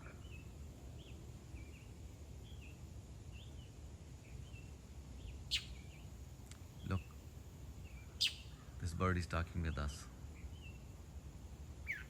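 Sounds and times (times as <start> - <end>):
bird chirping: 0.0 - 7.2, 7.8 - 8.8, 9.4 - 11.0, 11.8 - 12.0.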